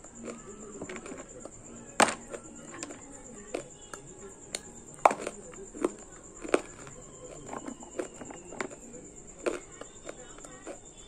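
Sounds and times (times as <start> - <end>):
crunching of clay chunks being chewed: 0.0 - 11.0.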